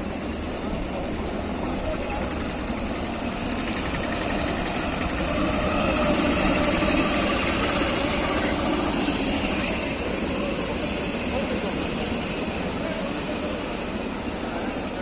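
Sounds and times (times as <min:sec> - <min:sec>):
train engine running: 0:00.0 - 0:15.0.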